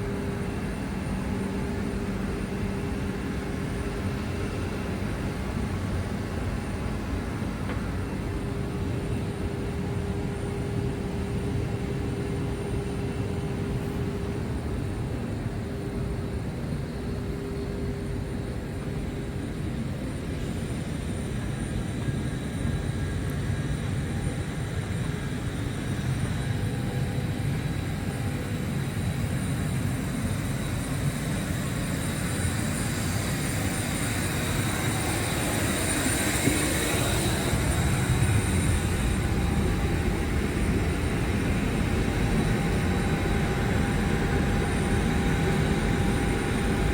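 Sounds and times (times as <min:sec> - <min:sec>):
faint high whines: 0:00.0 - 0:46.9
jet engine cabin noise: 0:00.0 - 0:46.9.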